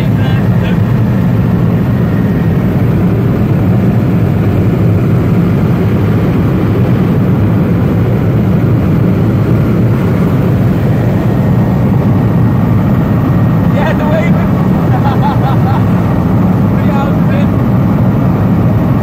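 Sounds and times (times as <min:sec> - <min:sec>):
helicopter engine and rotor noise: 0:00.0 - 0:19.0.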